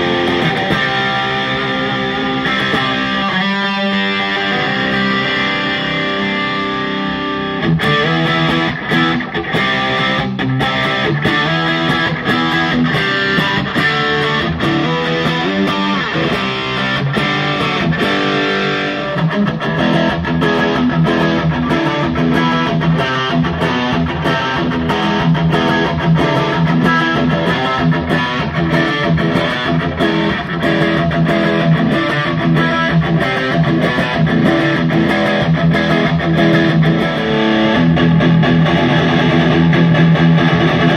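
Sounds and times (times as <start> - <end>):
overdriven electric guitar riffs: 0.0 - 40.9.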